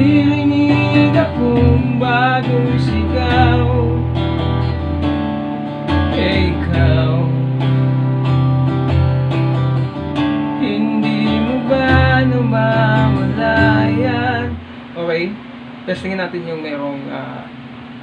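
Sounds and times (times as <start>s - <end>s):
strummed guitar chords: 0.0s - 15.8s.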